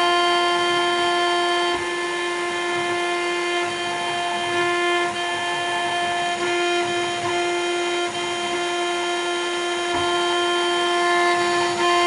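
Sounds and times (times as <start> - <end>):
router spindle high-pitched whine: 0.0 - 12.0.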